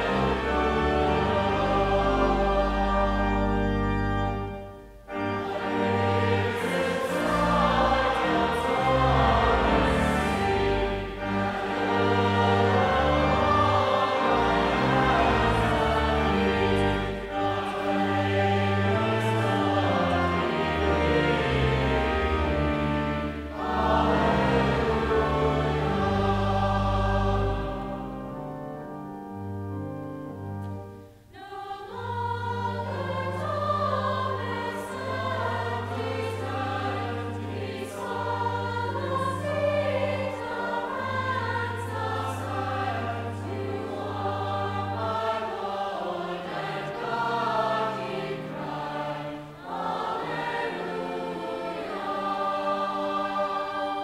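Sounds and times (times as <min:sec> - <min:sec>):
congregation singing a hymn: 0:00.0 - 0:54.0
organ accompaniment: 0:00.0 - 0:54.0.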